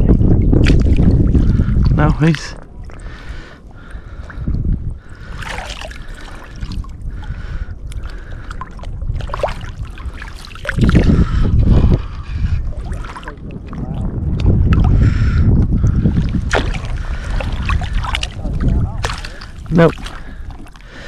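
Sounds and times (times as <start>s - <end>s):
water sloshing: 0.0s - 21.0s
wind buffeting microphone: 0.0s - 21.0s.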